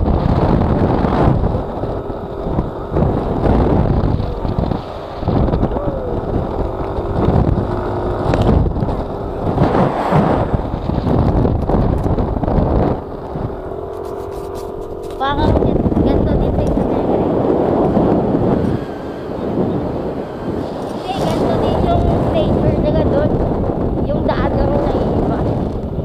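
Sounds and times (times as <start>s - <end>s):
scooter engine running: 0.0s - 26.0s
wind buffeting microphone: 0.0s - 26.0s.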